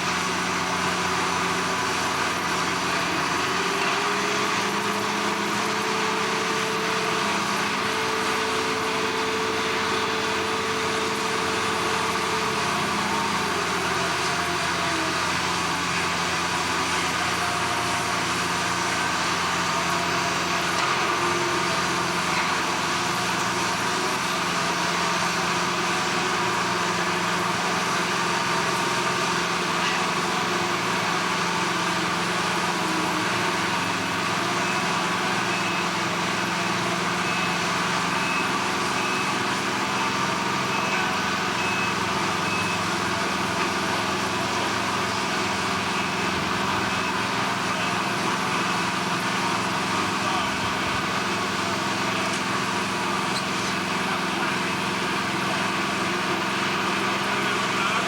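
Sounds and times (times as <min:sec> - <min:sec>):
heavy machinery droning: 0:00.0 - 0:58.0.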